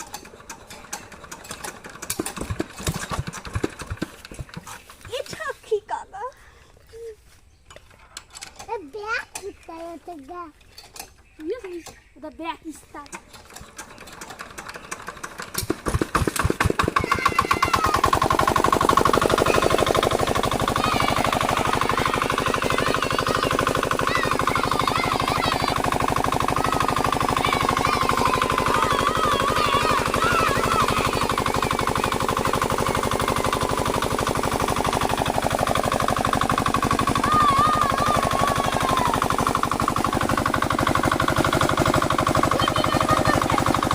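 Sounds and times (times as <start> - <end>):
diesel engine chugging: 0.0 - 7.3, 8.6 - 43.9.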